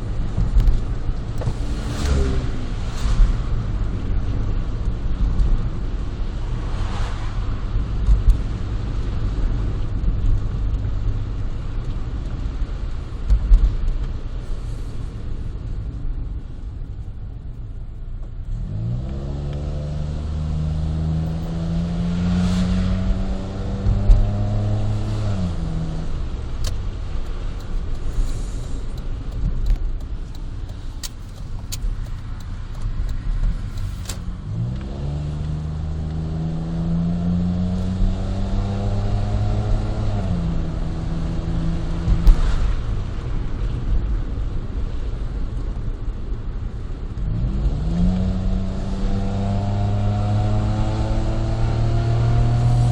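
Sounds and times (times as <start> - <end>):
road rumble: 0.0 - 52.9.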